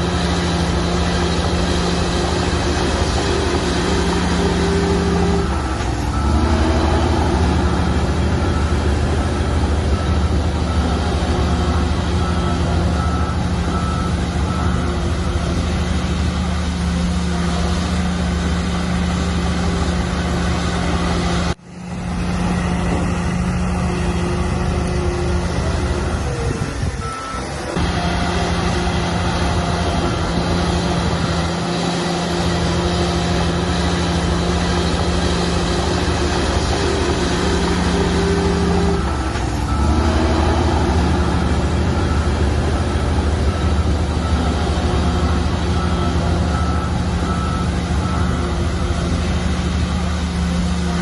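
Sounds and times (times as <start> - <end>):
heavy machinery engines running: 0.0 - 51.0
reversing alarm beeping: 0.1 - 21.6, 22.6 - 51.0.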